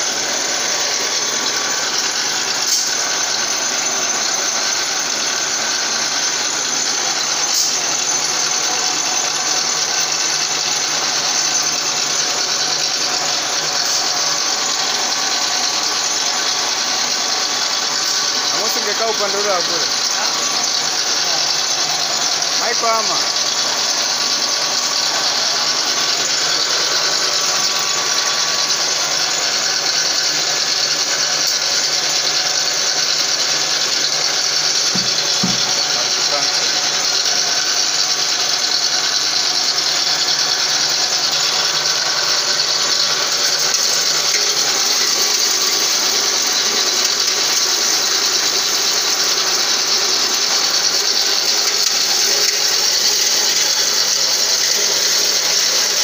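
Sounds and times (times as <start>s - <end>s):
grain mill running: 0.0s - 56.0s.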